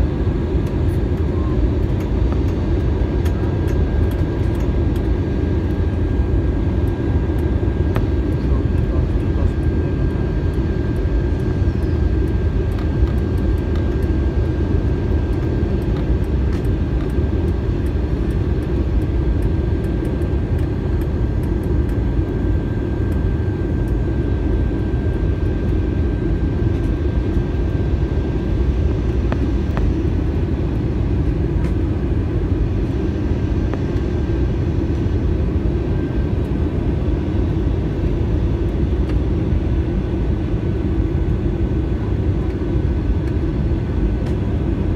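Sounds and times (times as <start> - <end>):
airliner cabin rumble: 0.0 - 44.9
faint steady whine: 0.0 - 44.9.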